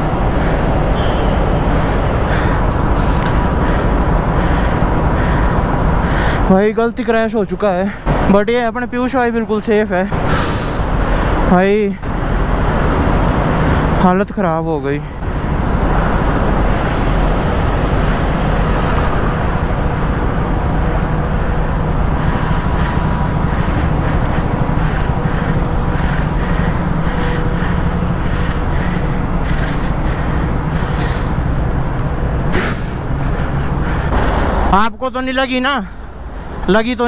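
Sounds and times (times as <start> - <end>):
road noise: 0.0 - 37.0.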